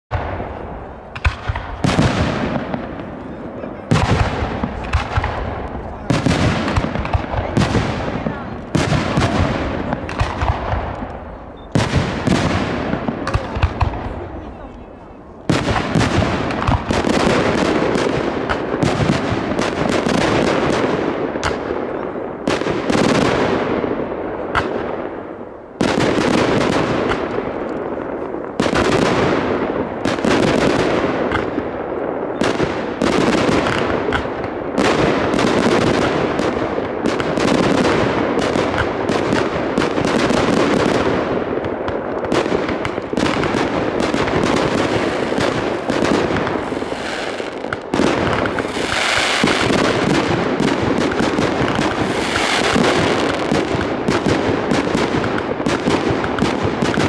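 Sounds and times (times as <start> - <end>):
fireworks bursting and crackling: 0.1 - 57.0.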